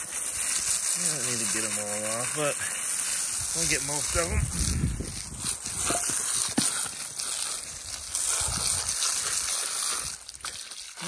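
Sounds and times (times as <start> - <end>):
garden hose spraying water: 0.0 - 11.0.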